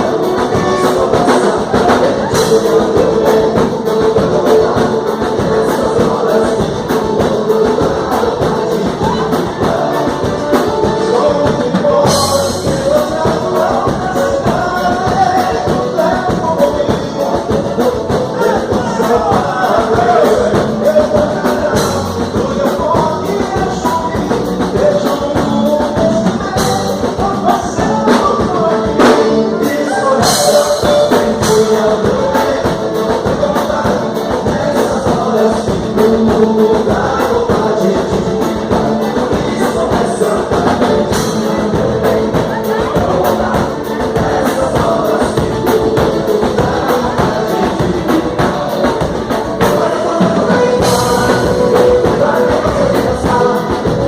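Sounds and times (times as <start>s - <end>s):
dance music with sung vocal: 0.0s - 54.0s.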